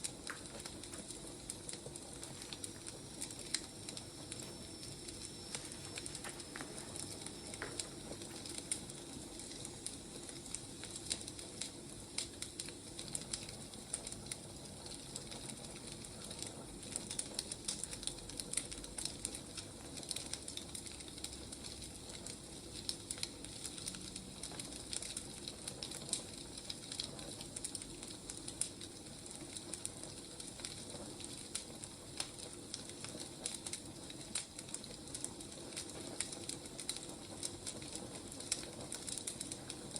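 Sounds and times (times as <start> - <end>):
firewood crackling and hissing: 0.0 - 39.9.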